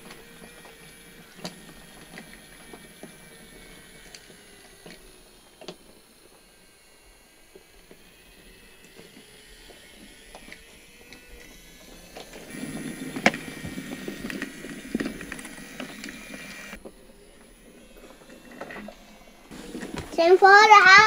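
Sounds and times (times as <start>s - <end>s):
toy train motor whine: 0.0s - 21.0s
toy train wheels clattering: 0.0s - 21.0s.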